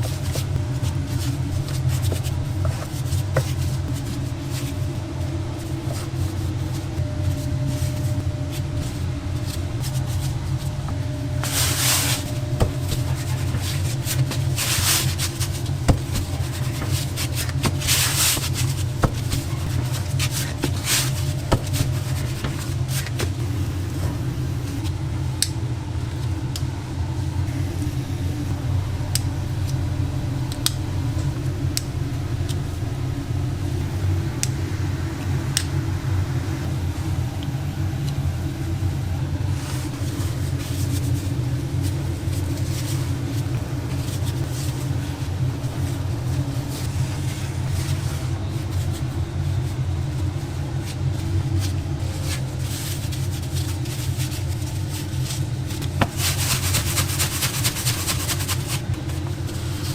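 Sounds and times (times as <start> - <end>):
kitchen machinery hum: 0.0 - 59.9.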